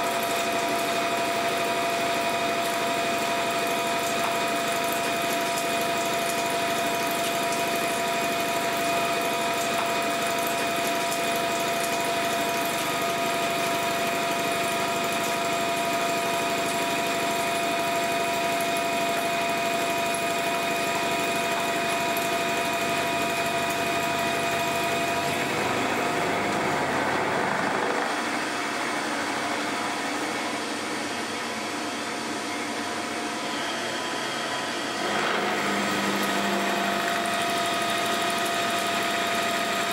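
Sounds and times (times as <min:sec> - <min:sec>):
milling machine cutting metal: 0:00.0 - 0:31.3, 0:32.0 - 0:39.9.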